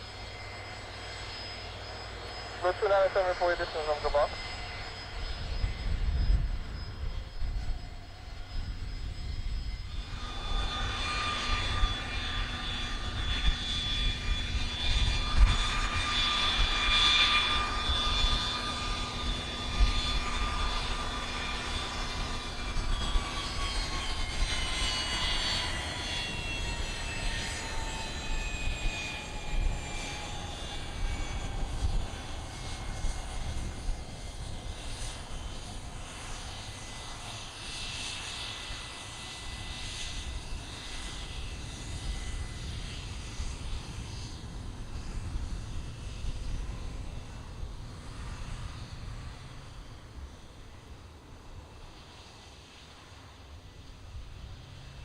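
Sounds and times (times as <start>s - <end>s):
aircraft engine whine: 0.0s - 55.0s.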